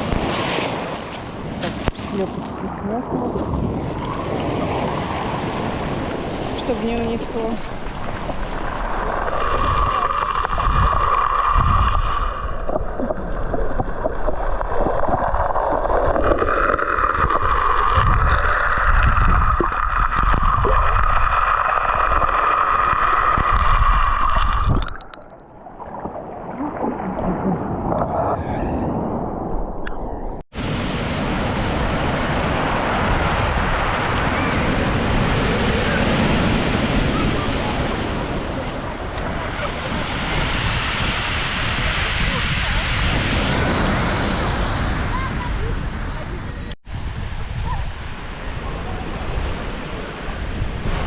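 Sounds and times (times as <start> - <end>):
surf washing: 0.0 - 25.1, 25.8 - 51.0
water sloshing and gurgling: 0.0 - 46.8.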